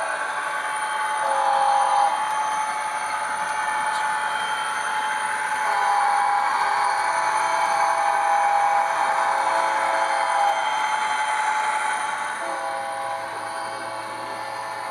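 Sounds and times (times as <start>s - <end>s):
steady whine: 0.0s - 14.9s.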